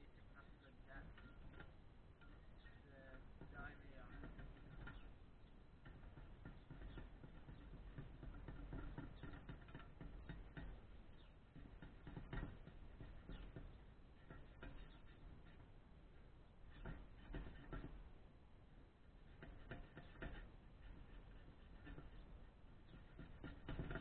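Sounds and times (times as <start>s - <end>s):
hand tool scraping metal plate: 0.4s - 24.0s.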